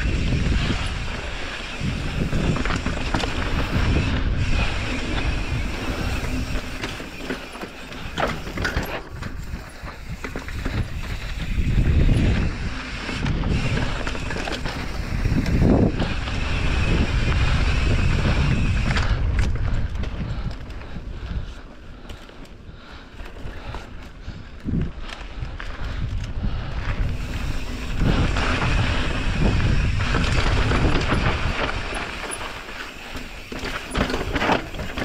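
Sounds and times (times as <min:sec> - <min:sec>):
wind rushing over microphone: 0:00.0 - 0:22.0, 0:22.6 - 0:35.0
bike knocking and rattling: 0:00.0 - 0:35.0.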